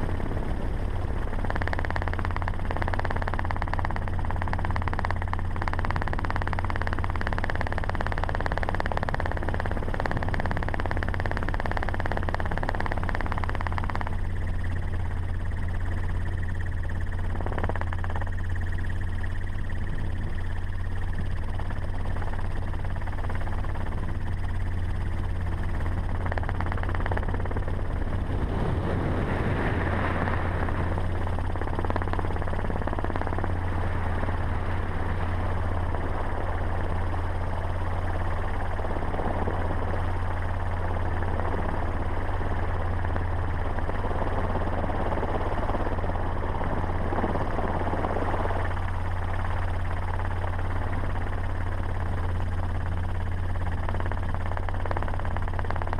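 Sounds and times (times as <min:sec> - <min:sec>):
helicopter drone: 0:00.0 - 0:55.9.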